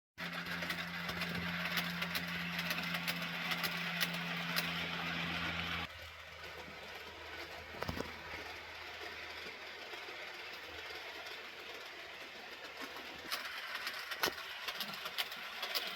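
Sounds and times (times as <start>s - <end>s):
model locomotive motor hum: 0.2s - 15.9s.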